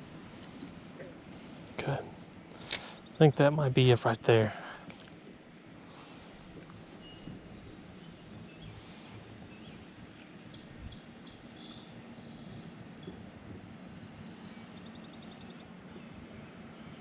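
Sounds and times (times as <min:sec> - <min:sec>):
songbirds chirping and trilling: 0:00.0 - 0:17.0
steady low hum: 0:00.0 - 0:17.0.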